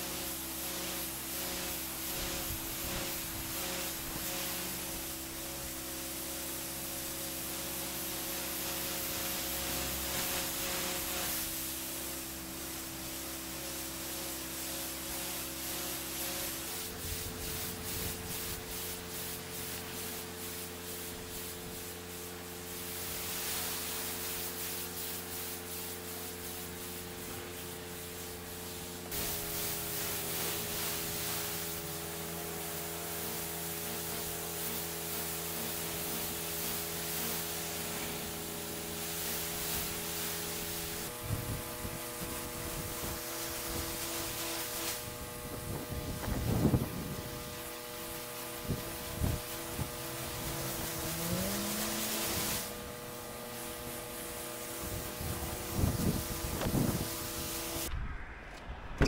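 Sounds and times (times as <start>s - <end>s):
pressure washer spraying water: 0.0s - 57.9s
engine and pump humming: 0.0s - 59.0s.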